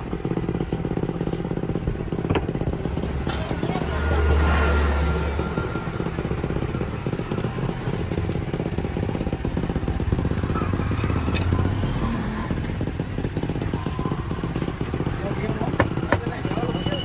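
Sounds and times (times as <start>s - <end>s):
small engines of passing traffic: 0.0s - 17.0s.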